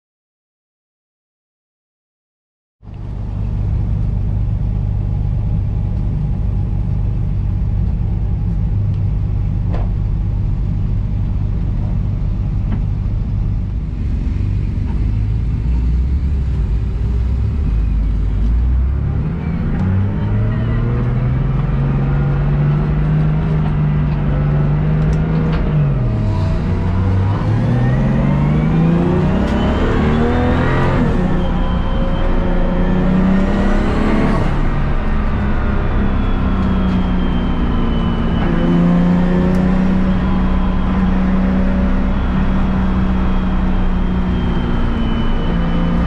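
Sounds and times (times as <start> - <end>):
car engine running: 2.9 - 46.0.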